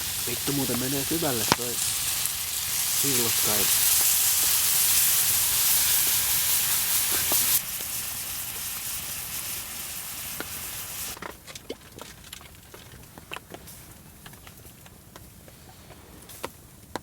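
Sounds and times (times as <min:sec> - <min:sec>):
faint crackles and ticks: 0:00.0 - 0:17.0
food sizzling over embers: 0:00.0 - 0:17.0.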